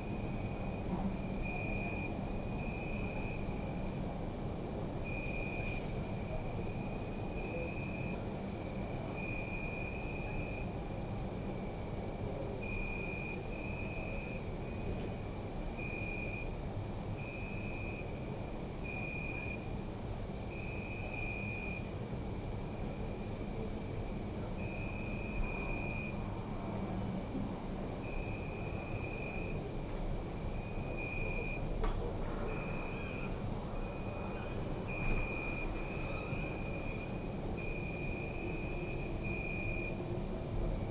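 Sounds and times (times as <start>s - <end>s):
high cricket trill: 0.0s - 40.9s
lower-pitched cricket chirping: 0.0s - 40.9s.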